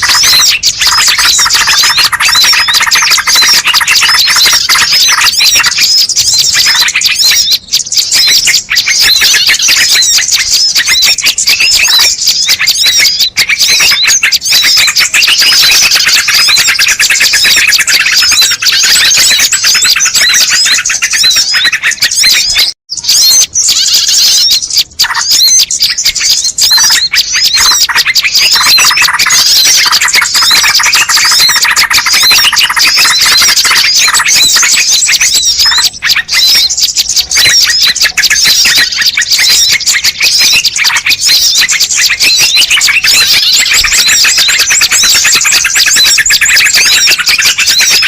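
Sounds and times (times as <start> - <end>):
birds chirping and twittering: 0.0 - 48.0.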